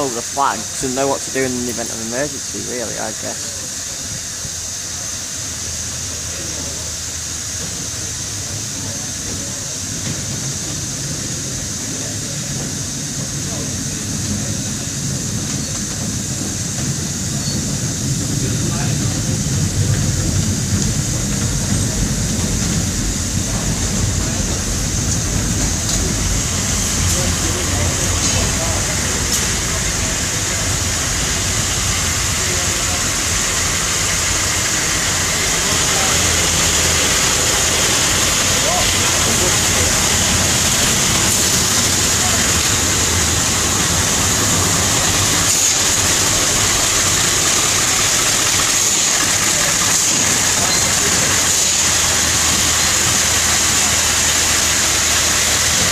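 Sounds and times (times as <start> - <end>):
diesel locomotive engine idling: 0.0 - 55.9
train rolling slowly: 0.0 - 55.9.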